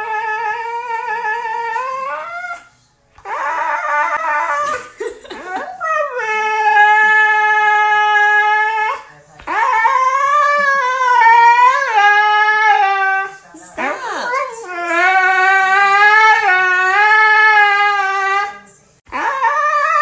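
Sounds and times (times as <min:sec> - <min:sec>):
dog howling: 0:00.0 - 0:04.8, 0:05.5 - 0:20.0.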